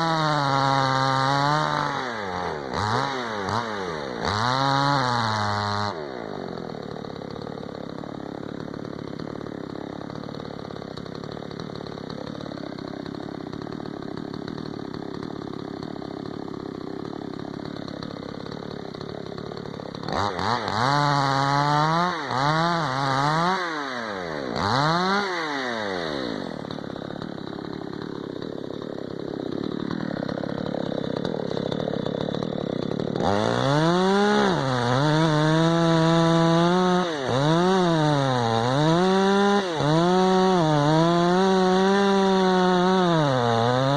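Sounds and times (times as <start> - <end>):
chainsaw running and revving: 0.0 - 43.9.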